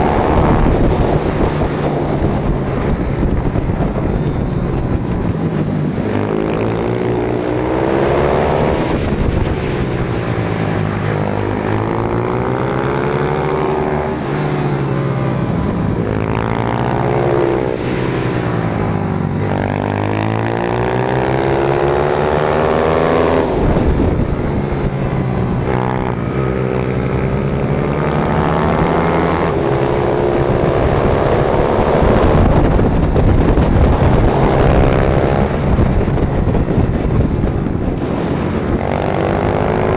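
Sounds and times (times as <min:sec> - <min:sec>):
motorbike engine accelerating: 0:00.0 - 0:39.9.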